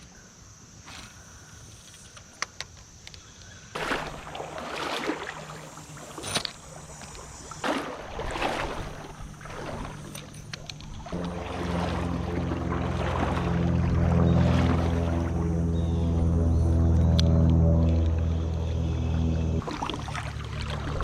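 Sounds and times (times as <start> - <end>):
water splashing from wading: 3.7 - 21.0.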